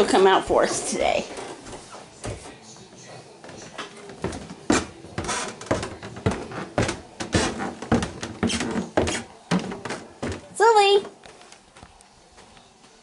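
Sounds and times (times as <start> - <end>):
footsteps walking: 0.0 - 13.0.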